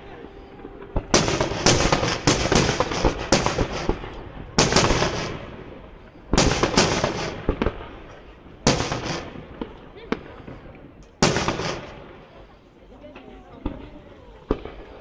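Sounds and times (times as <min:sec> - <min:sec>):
firework shells bursting: 0:00.0 - 0:12.5.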